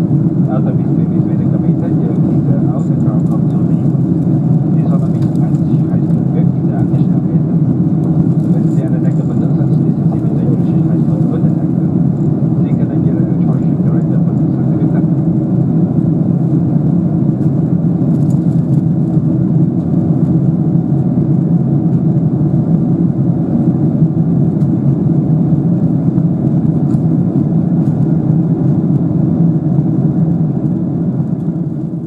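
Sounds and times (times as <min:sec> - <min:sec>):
airplane cabin roar: 0:00.0 - 0:32.0.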